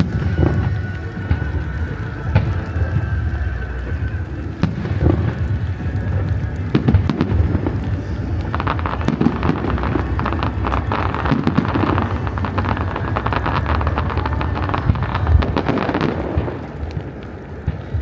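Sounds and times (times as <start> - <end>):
crackling firework shells: 0.0 - 18.0
firework booms: 0.0 - 18.0.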